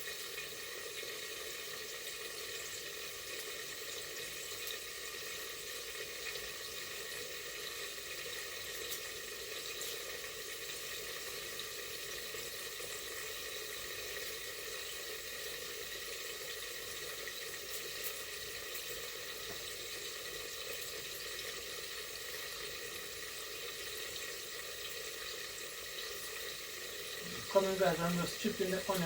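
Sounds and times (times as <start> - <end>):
chicken sizzling in a pot: 0.0 - 29.0.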